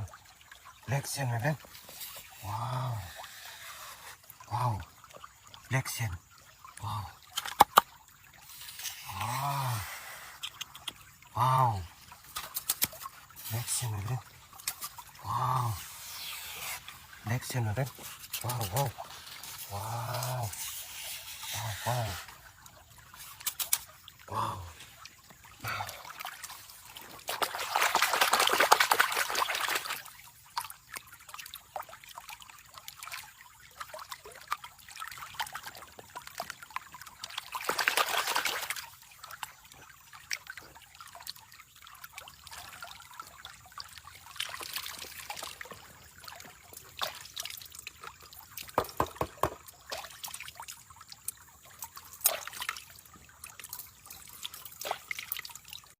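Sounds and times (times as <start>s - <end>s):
water pouring and trickling: 0.0s - 55.9s.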